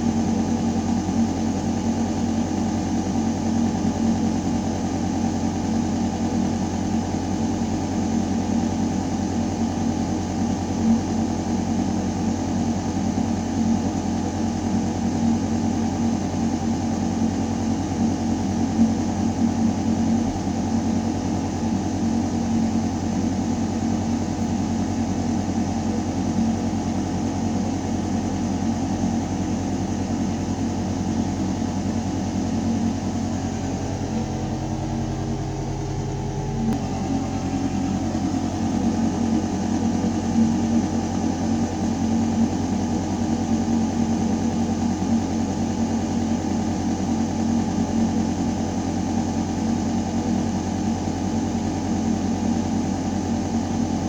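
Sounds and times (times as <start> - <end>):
ventilation hum in ductwork: 0.0 - 54.0.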